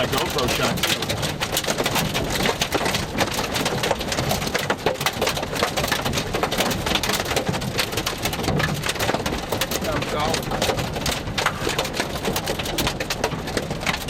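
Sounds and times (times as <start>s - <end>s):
heavy rain on hard surface: 0.0s - 14.0s.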